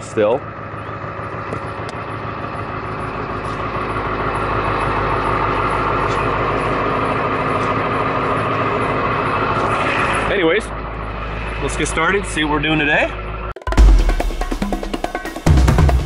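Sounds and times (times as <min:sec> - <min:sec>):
road or fan noise: 0:00.0 - 0:13.5
vehicle engine hum: 0:00.0 - 0:16.0.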